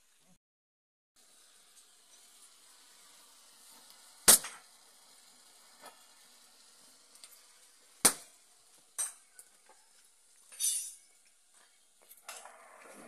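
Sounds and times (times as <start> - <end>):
gas torch hiss: 1.2 - 13.0.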